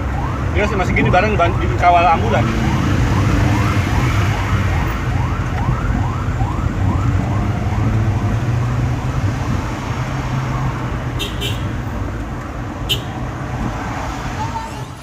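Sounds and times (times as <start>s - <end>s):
ambulance siren yelping: 0.0s - 11.8s, 14.0s - 15.0s
low hum of road traffic: 0.0s - 15.0s.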